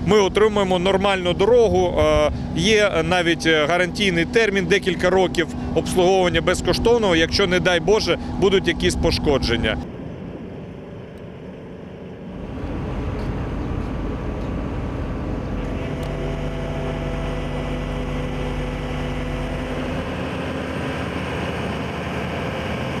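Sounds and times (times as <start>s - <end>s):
paving machinery engine noise: 0.0s - 23.0s
steady engine hum: 0.0s - 23.0s.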